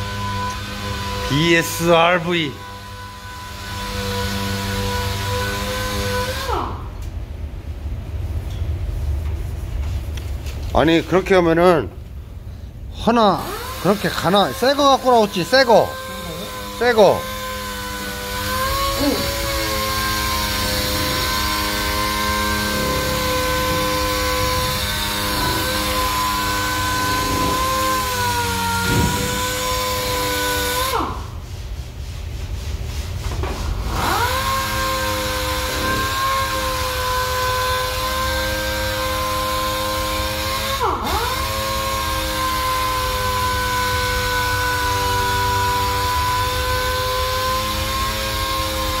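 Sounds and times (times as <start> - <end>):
pneumatic sander whining: 0.0 - 6.9, 13.4 - 31.3, 33.8 - 49.0.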